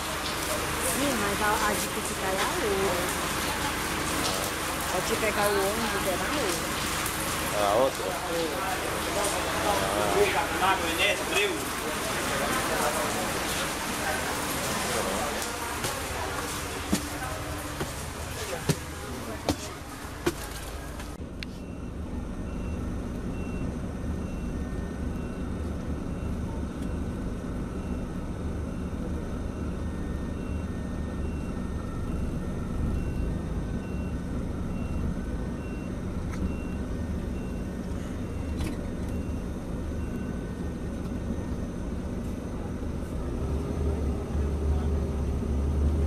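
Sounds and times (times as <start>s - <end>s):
bus diesel engine rumble: 0.0s - 46.0s.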